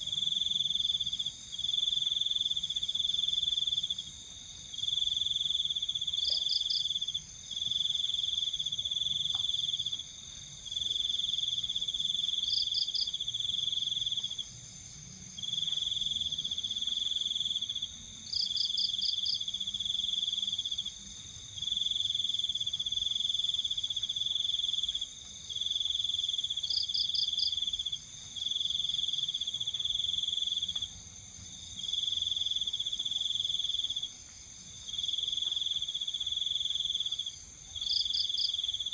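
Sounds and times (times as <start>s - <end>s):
high insect chorus: 0.0s - 38.9s
rapid insect chirp: 0.0s - 38.9s.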